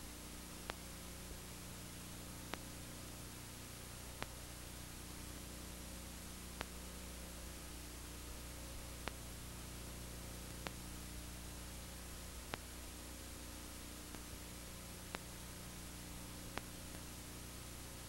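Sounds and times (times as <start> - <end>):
electrical mains hum: 0.0 - 18.0
steady hiss: 0.0 - 18.0.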